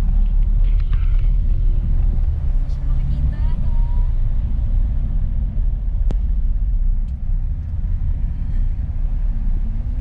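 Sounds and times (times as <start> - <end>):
car rumbling on road: 0.0 - 10.0.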